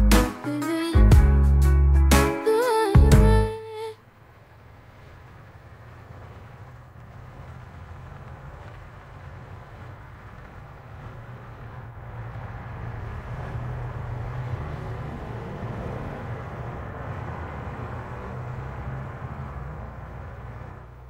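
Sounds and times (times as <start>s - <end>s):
low rumble with rushing hiss: 2.9s - 21.0s.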